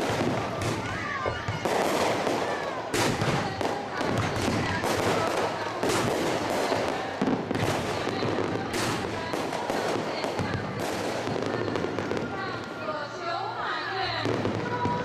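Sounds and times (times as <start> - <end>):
loud firework bangs: 0.0 - 12.8, 14.1 - 15.0
fireworks crackling: 0.0 - 15.0.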